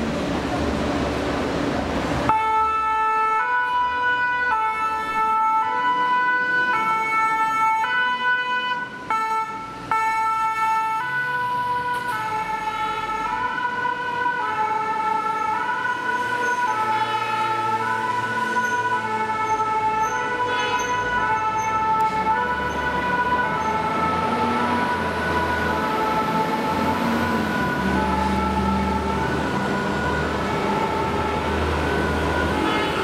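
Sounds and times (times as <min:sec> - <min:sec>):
fire engine two-tone siren: 0:02.2 - 0:33.0.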